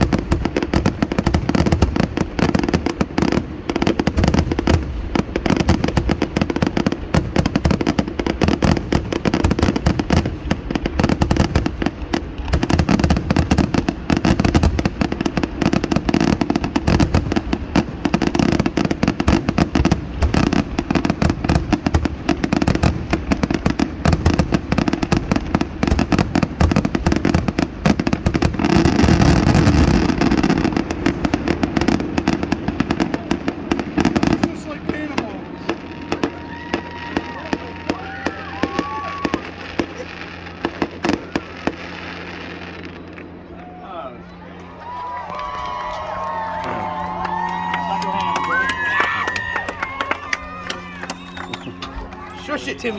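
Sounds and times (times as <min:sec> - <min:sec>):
fireworks bangs and crackles: 0:00.0 - 0:43.8, 0:44.8 - 0:52.9.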